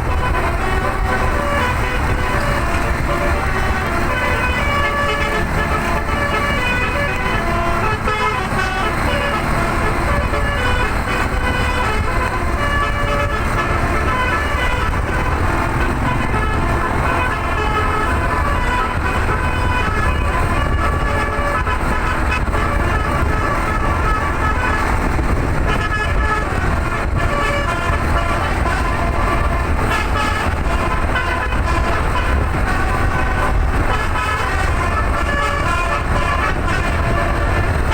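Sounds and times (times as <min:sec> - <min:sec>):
bus rumbling: 0:00.0 - 0:37.9
musical air horns playing: 0:00.0 - 0:37.9.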